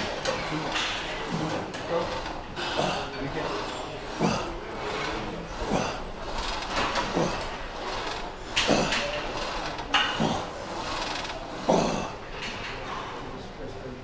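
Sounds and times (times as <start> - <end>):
leg press sled sliding on rails: 0.0 - 12.9.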